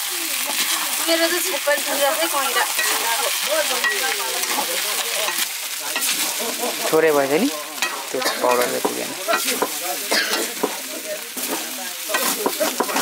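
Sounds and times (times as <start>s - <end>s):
food sizzling in a wok: 0.0s - 13.0s
wooden stick scraping wok: 0.4s - 13.0s.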